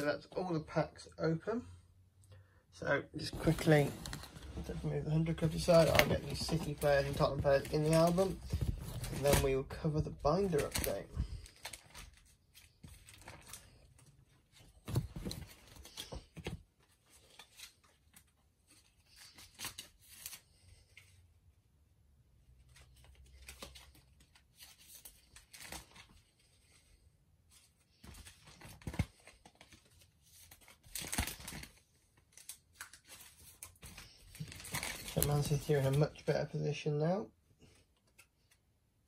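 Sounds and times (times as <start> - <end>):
trading cards rustling and crinkling: 3.0 - 21.4, 22.4 - 37.0.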